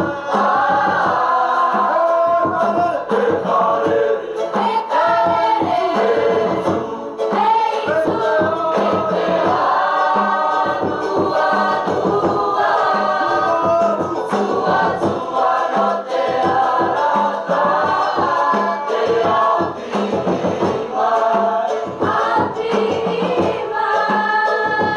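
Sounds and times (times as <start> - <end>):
drum beats: 0.0 - 24.9
group singing in harmony: 0.0 - 24.9.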